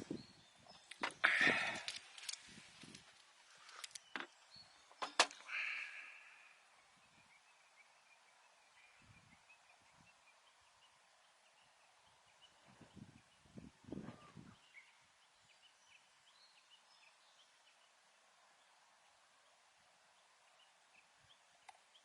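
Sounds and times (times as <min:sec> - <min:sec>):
faint bird chirps: 0:03.9 - 0:22.0.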